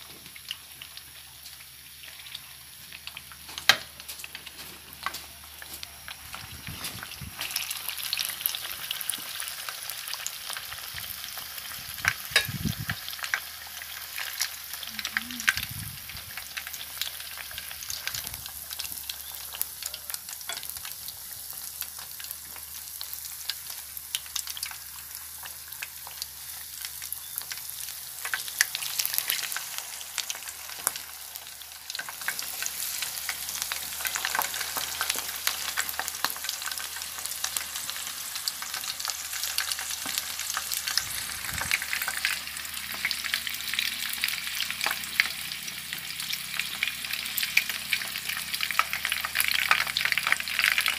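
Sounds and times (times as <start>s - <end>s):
food deep-frying in hot oil: 0.0s - 50.9s.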